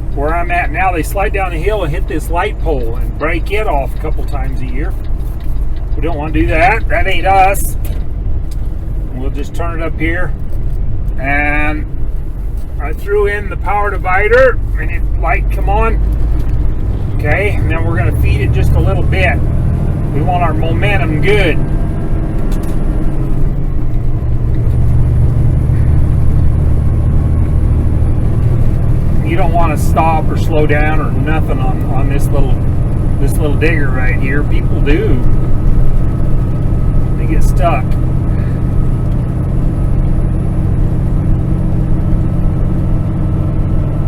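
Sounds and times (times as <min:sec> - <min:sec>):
truck diesel engine drone: 0:00.0 - 0:44.0.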